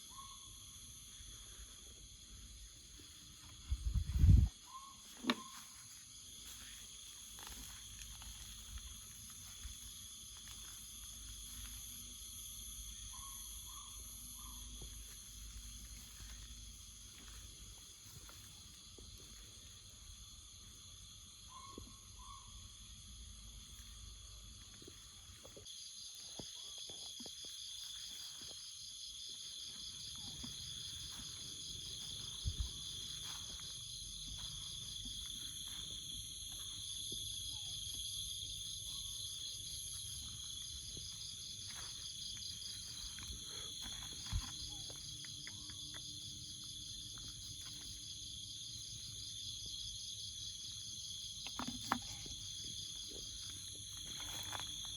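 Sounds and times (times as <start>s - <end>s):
pulsing insect trill: 0.0s - 54.9s.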